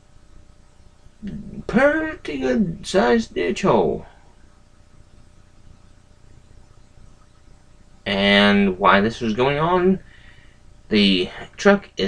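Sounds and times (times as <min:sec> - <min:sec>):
faint steady hiss: 0:00.0 - 0:12.0
low hum: 0:00.0 - 0:12.0.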